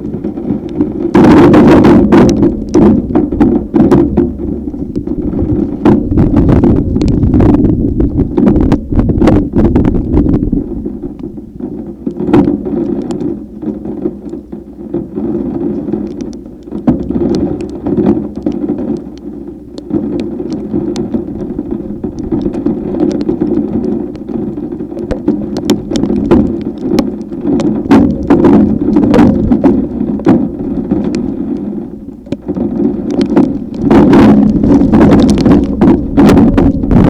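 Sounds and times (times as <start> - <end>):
rain ticks: 0.0 - 37.0
wind buffeting microphone: 0.0 - 37.0.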